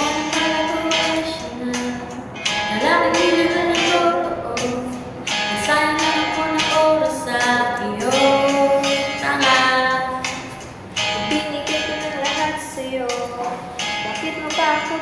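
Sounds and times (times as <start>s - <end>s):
woman singing: 0.0s - 10.3s, 11.1s - 15.0s
instrumental backing: 0.0s - 15.0s.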